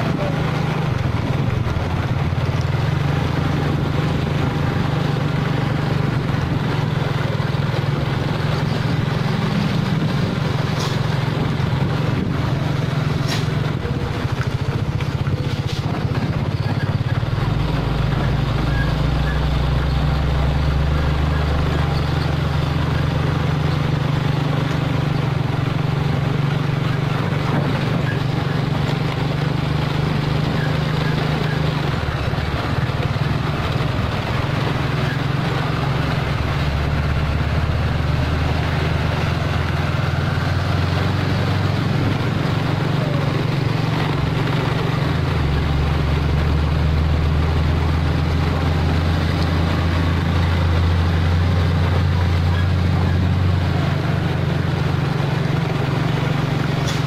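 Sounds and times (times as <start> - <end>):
road and wind noise: 0.0 - 57.0
truck diesel engine running: 0.0 - 57.0.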